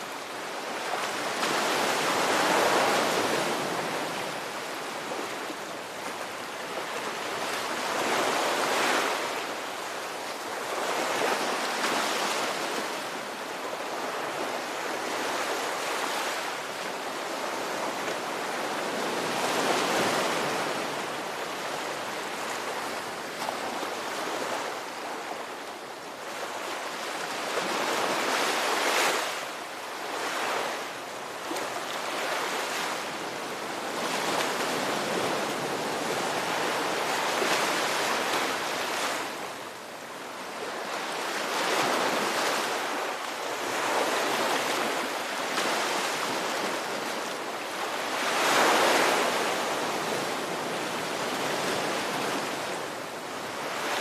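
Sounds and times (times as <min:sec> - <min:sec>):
ocean waves washing onto shore: 0:00.0 - 0:54.0.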